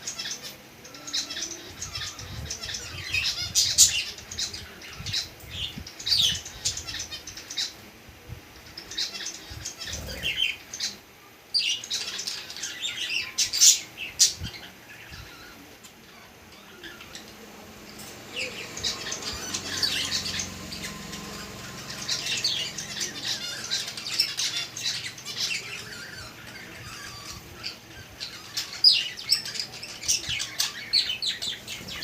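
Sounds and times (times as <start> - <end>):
birds squawking and chirping: 0.0 - 32.0.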